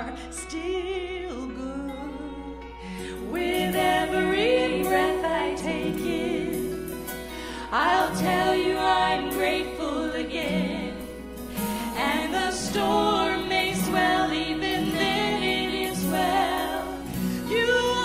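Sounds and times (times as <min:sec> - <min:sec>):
women singing into microphones: 0:00.0 - 0:18.0.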